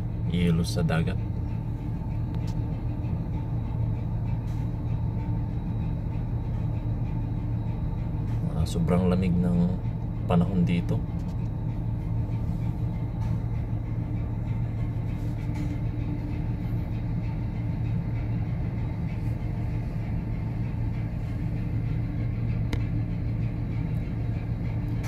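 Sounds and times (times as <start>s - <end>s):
low machinery hum: 0.0s - 25.0s.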